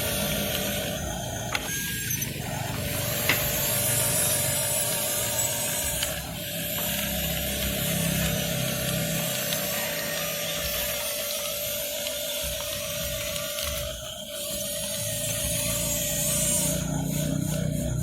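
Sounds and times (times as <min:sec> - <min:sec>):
model bulldozer motors whirring: 0:00.0 - 0:18.0.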